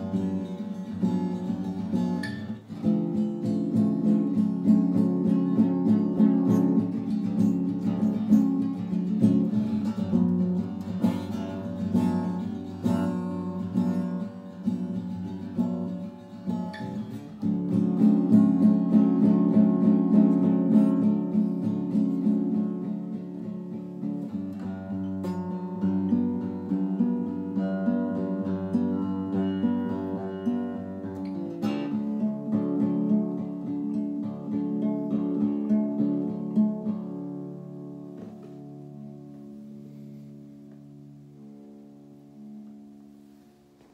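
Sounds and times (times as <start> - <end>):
acoustic guitar chords: 0.0 - 43.9.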